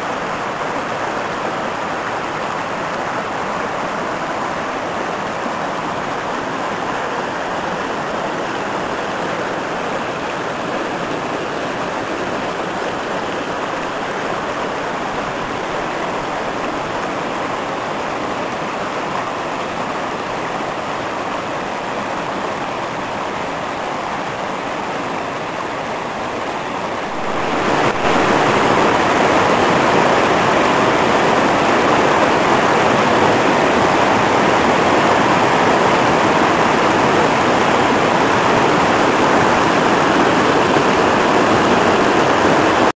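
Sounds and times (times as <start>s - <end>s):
creek rushing over stones: 0.0s - 42.9s.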